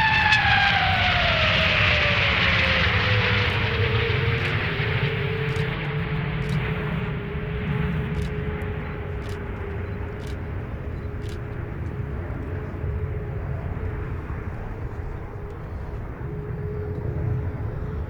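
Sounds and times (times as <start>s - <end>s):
jet engine roar with whine: 0.0s - 18.0s.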